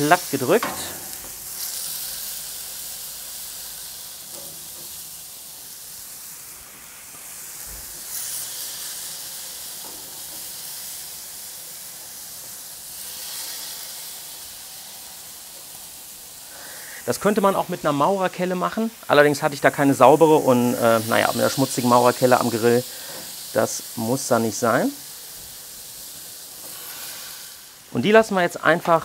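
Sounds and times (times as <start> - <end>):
meat sizzling on a griddle: 0.0 - 29.0.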